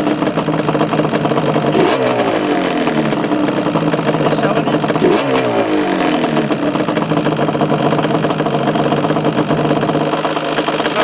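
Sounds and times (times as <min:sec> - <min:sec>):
two-stroke engine idling: 0:00.0 - 0:11.0
worn kickstart mechanism rattle: 0:00.0 - 0:11.0.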